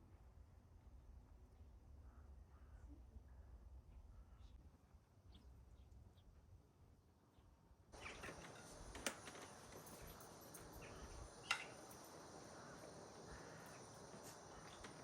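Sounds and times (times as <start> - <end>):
faint background hiss: 2.5 - 15.0.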